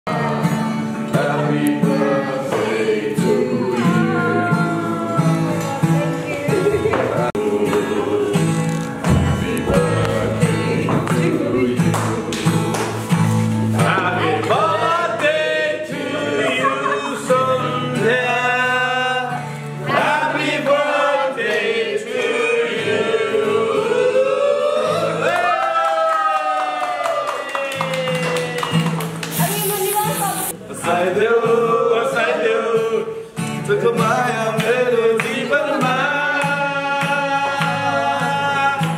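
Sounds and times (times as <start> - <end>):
people singing: 0.1 - 25.6, 29.9 - 38.9
acoustic guitar: 0.1 - 26.0, 26.8 - 38.9.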